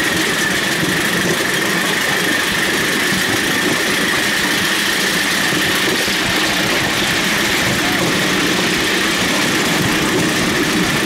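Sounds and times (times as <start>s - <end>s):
miniature train rolling on track: 0.0s - 11.0s.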